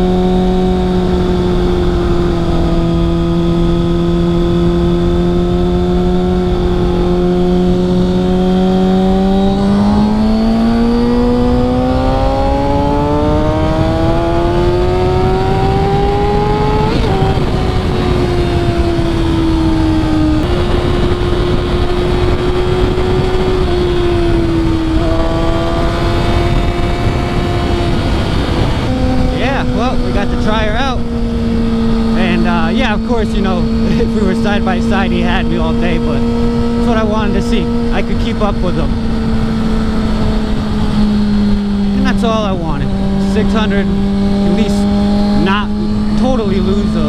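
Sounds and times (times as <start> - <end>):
motorcycle engine accelerating: 0.0 - 47.0
wind rushing: 2.0 - 47.0.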